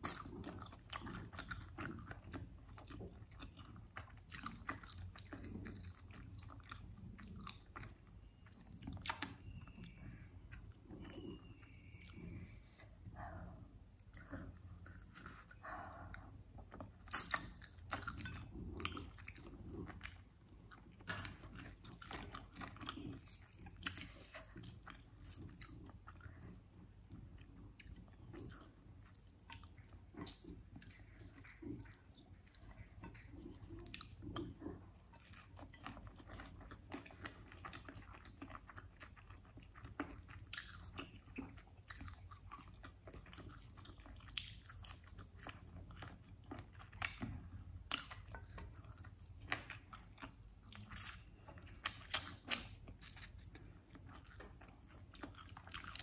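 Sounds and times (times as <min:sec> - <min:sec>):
chewing and biting chicken: 0:00.0 - 0:56.0.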